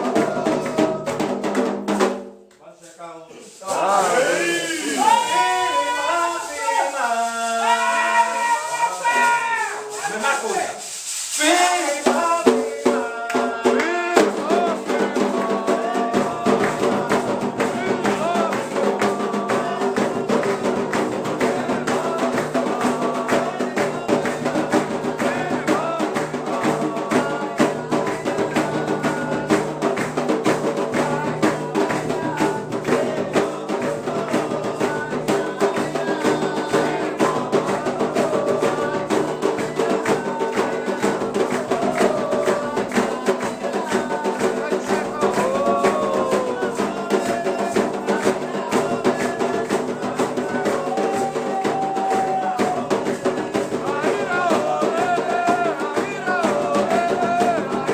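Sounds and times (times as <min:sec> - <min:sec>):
drums and hand percussion: 0:00.0 - 0:57.9
voices singing: 0:00.0 - 0:57.9.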